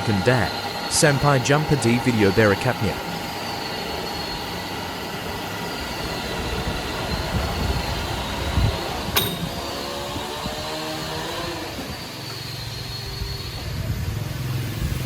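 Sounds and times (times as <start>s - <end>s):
machinery rumbling: 0.0s - 15.0s.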